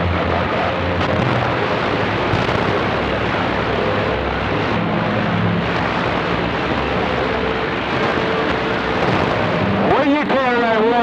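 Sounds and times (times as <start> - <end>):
radio static hiss: 0.0 - 4.7, 5.6 - 11.0.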